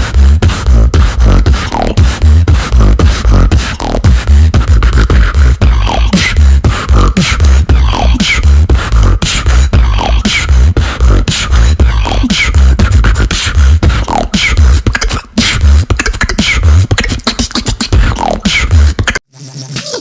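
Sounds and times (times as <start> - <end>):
vocal beatboxing: 0.0 - 20.0.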